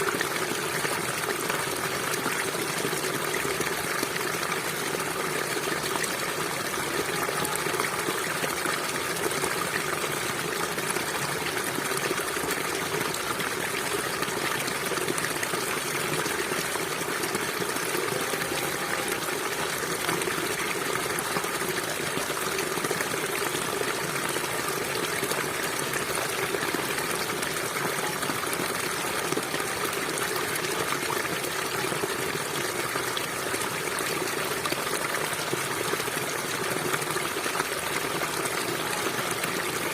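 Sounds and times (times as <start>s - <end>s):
stream gushing and trickling: 0.0s - 39.9s.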